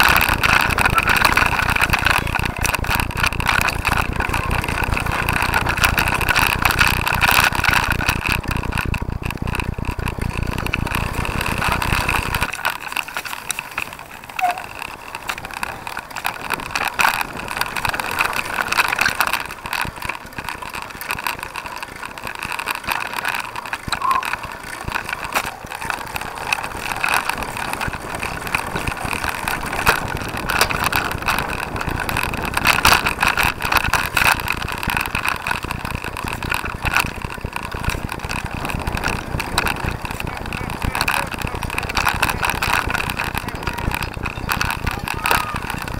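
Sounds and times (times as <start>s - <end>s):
bike rattle on rough grass: 0.0s - 45.9s
heavy low rumble: 0.0s - 45.9s.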